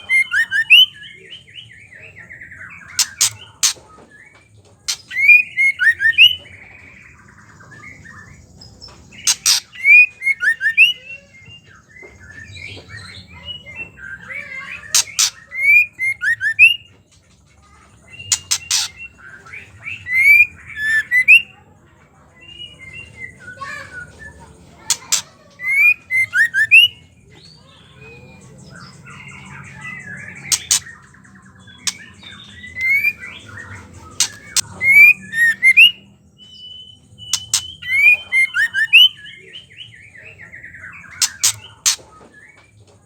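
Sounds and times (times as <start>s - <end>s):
bird harsh chattering calls: 0.0s - 11.6s, 12.4s - 17.0s, 17.6s - 21.7s, 22.4s - 43.0s.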